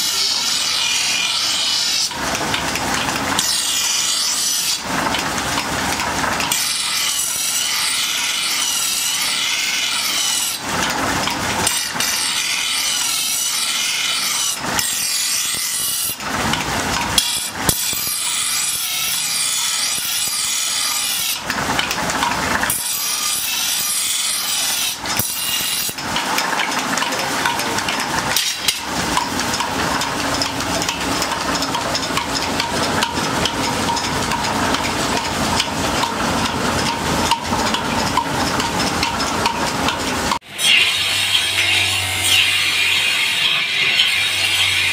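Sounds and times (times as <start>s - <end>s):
blade scraping on grinding wheel: 0.0s - 44.9s.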